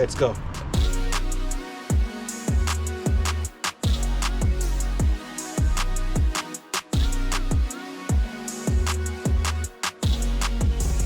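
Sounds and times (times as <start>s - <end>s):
electronic bass drum kicks: 0.8s - 1.1s, 1.9s - 6.4s, 7.0s - 11.0s.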